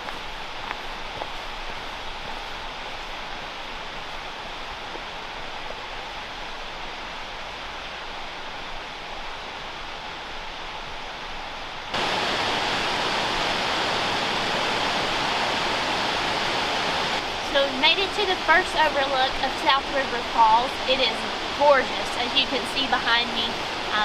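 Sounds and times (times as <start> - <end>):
waterfall rushing water: 0.0 - 24.0.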